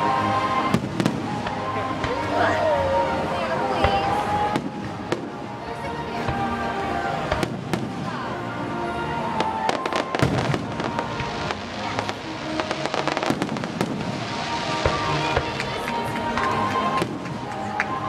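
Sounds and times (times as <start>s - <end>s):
fireworks bursting: 0.0s - 3.0s, 3.7s - 8.3s, 9.3s - 18.0s
background music: 0.0s - 18.0s
fireworks crackling: 0.0s - 18.0s.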